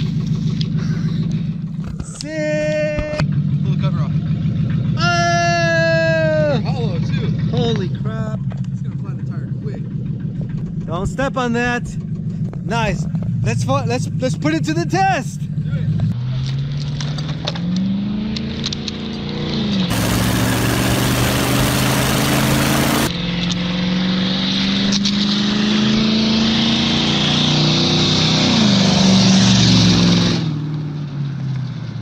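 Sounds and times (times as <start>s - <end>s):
car engine revving: 5.6s - 32.0s.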